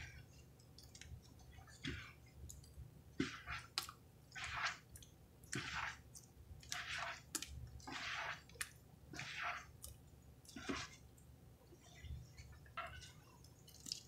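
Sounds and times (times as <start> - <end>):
wet sponges squelching: 0.0 - 14.0.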